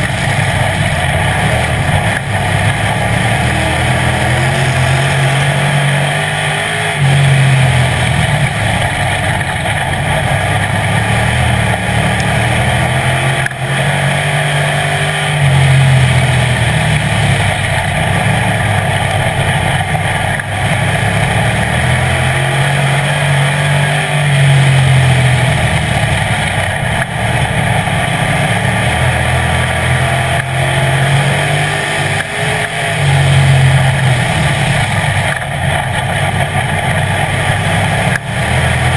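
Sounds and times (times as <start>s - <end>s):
race car engine: 0.0s - 38.9s.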